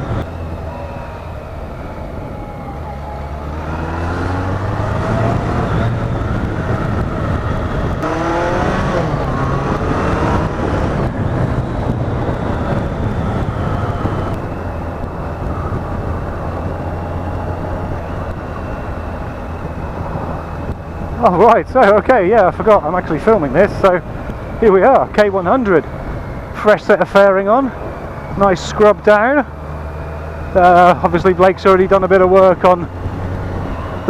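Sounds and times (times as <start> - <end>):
motorcycle engine accelerating: 0.0 - 34.0
wind rushing: 0.0 - 34.0.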